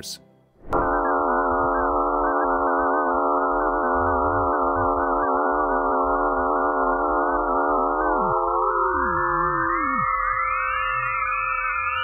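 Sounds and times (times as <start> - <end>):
electronic drone: 0.6 - 12.0.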